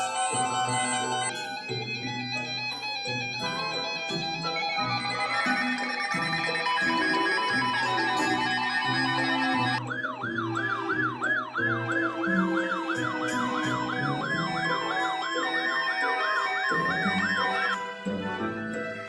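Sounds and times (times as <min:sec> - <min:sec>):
siren yelping: 0:00.0 - 0:18.2
background music: 0:00.0 - 0:19.0.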